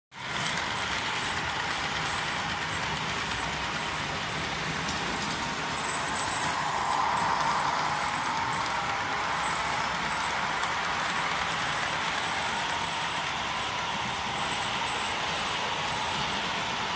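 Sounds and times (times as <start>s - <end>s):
model train running on track: 0.1s - 16.9s.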